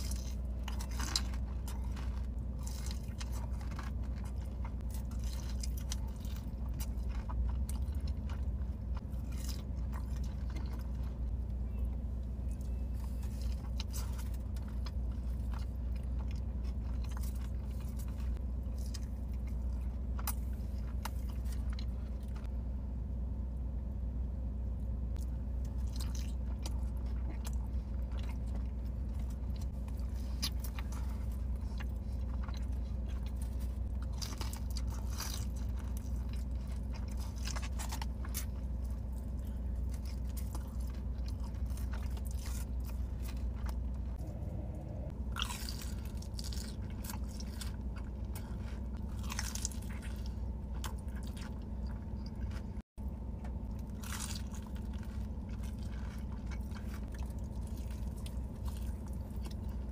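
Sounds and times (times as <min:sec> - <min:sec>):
wet biting and chewing: 0:00.0 - 0:11.4, 0:12.4 - 0:22.5, 0:25.1 - 0:59.9
car hum: 0:00.0 - 0:59.9.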